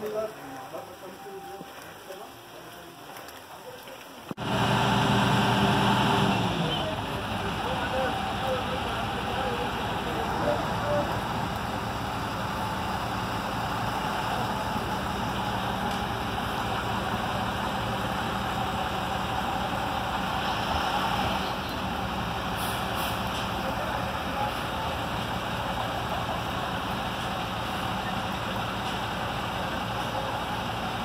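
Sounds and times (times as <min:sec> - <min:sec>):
truck engine idling: 0:04.3 - 0:31.0.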